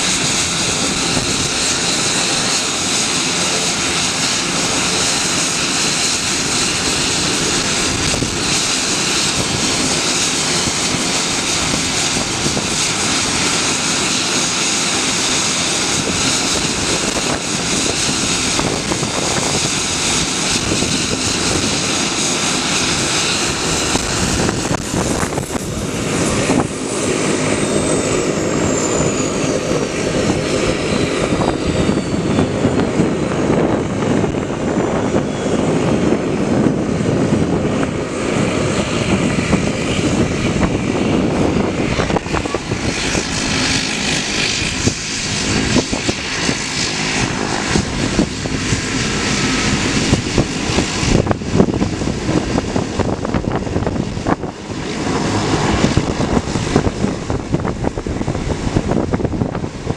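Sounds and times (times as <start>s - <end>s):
taxiing turboprop whine: 0.0s - 59.9s
turboprop engines running: 0.0s - 59.9s.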